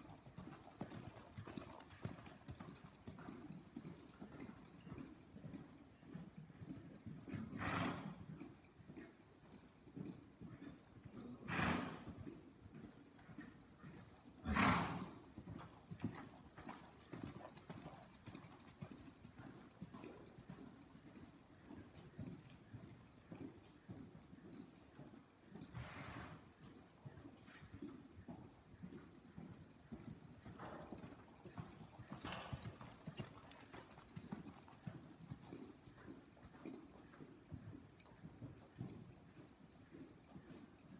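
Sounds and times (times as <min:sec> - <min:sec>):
horse hoofbeats on soft dirt: 0:00.0 - 0:40.9.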